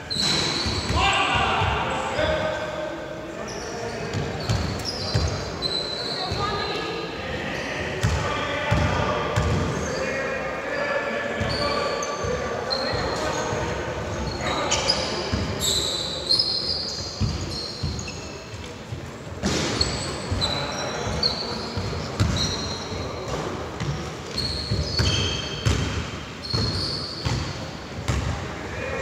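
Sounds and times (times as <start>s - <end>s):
sneakers squeaking on floor: 0.0s - 2.6s, 3.4s - 28.4s.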